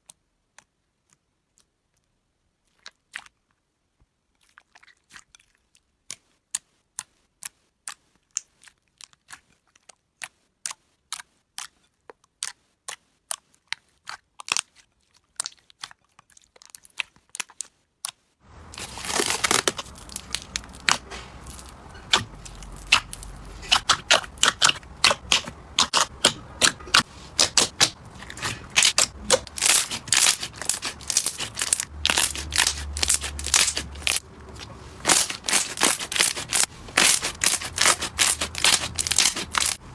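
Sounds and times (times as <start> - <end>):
slime squelching and crackling: 0.0 - 39.8.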